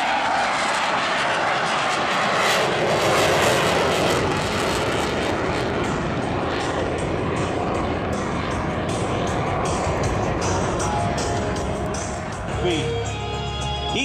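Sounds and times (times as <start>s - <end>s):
jet engines low pass: 0.0s - 14.0s.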